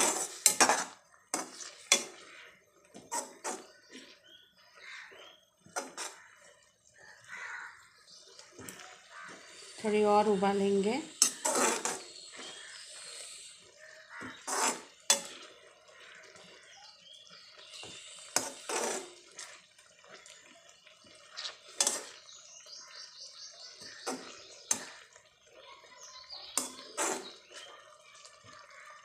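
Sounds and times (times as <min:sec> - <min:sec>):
metal spoon stirring in pan: 0:00.0 - 0:28.9
water boiling and bubbling: 0:00.0 - 0:29.0.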